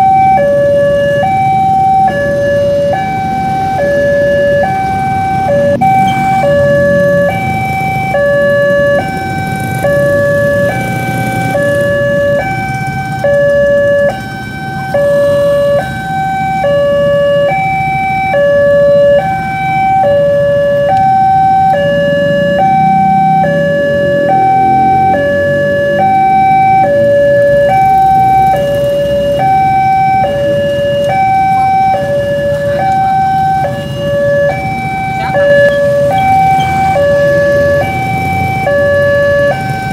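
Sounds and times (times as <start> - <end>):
road traffic: 0.0 - 39.9
two-tone crossing alarm: 0.0 - 39.9.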